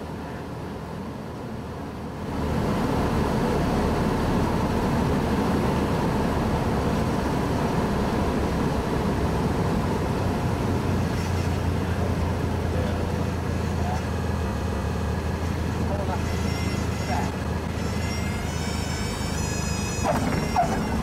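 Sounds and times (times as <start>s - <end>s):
small plane engine and propeller: 0.0s - 21.0s.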